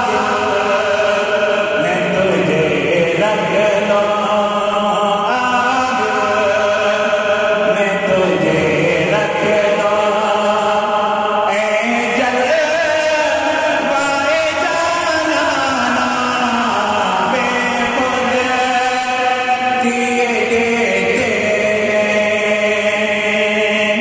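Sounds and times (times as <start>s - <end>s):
man singing devotional song: 0.0s - 24.0s.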